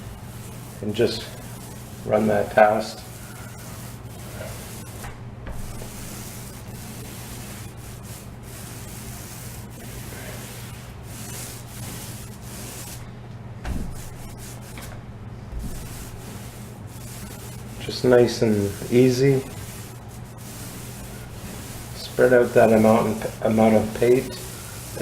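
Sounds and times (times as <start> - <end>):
paintbrush brushing on wall: 0.0 - 13.1, 13.7 - 25.0.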